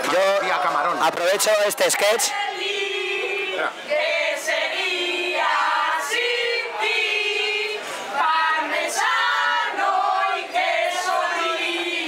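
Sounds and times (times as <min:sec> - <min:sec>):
women singing a cappella: 0:01.9 - 0:12.0.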